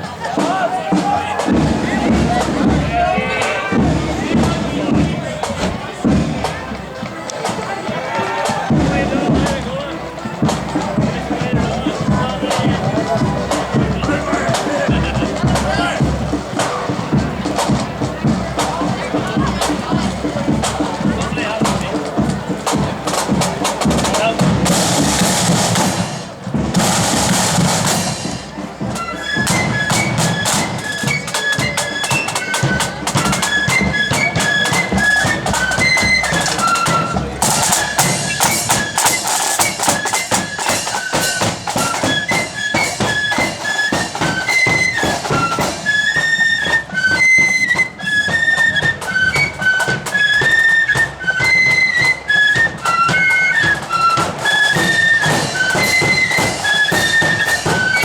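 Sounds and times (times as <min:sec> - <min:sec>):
marching flute band playing: 0:00.0 - 0:58.0
snare and bass drum beats: 0:00.0 - 0:58.0.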